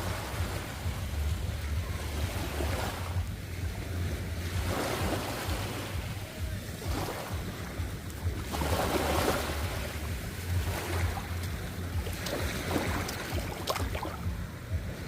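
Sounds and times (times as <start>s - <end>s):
ocean waves surging: 0.0s - 15.0s
steady low rumble: 0.0s - 15.0s
water splashes: 0.0s - 15.0s.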